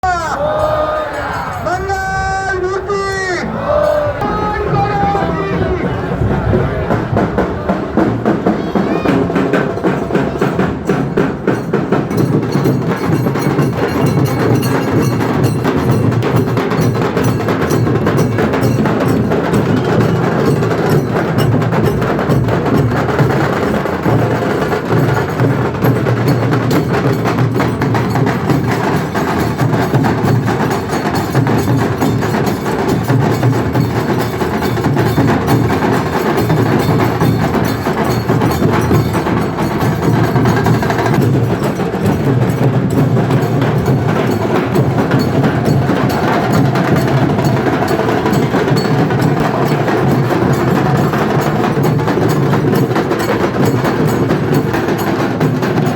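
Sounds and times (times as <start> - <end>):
massed drums beating: 0.0 - 55.9
sharp rapid drum strokes: 4.2 - 55.9.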